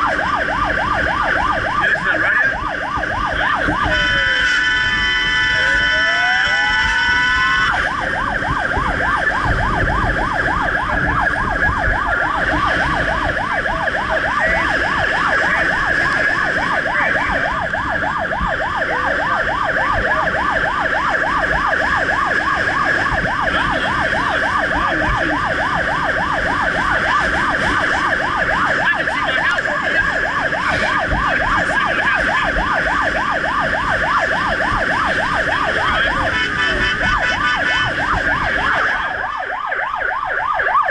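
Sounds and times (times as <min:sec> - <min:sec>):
fire truck siren yelping: 0:00.0 - 0:40.9
road noise: 0:00.0 - 0:40.9.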